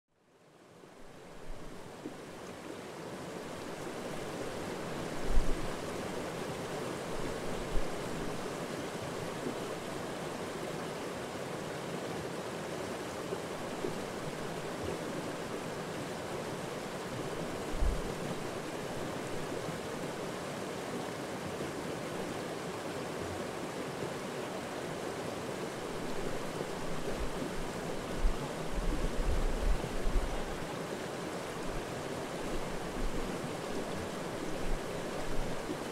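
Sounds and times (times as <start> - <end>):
stream rushing over rocks: 0.5 - 35.9.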